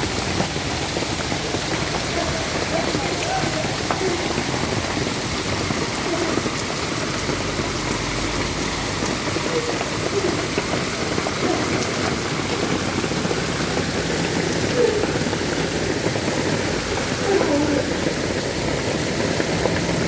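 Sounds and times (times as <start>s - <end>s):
heavy rain and hail pelting: 0.0s - 20.0s.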